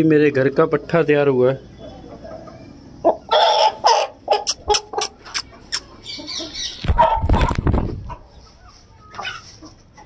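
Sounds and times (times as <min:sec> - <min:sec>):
cockerel squawking and clucking: 0:01.9 - 0:10.0.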